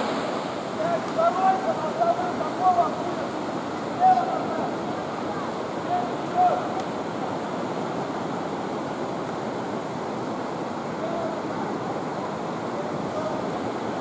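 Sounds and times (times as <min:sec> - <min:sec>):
whitewater rushing through rocks: 0:00.0 - 0:14.0.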